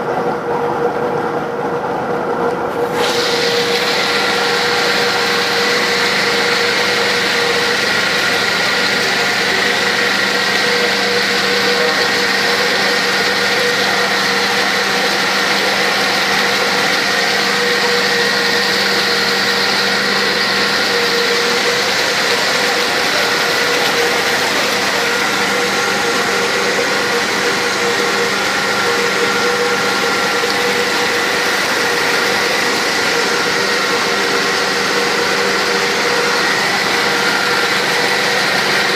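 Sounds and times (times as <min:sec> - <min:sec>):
paper-making machine running: 0:00.0 - 0:38.9.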